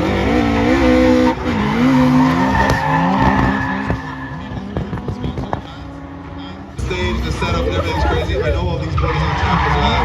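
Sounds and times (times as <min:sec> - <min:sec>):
car engine revving hard: 0:00.0 - 0:10.0
tyres skidding: 0:00.0 - 0:10.0.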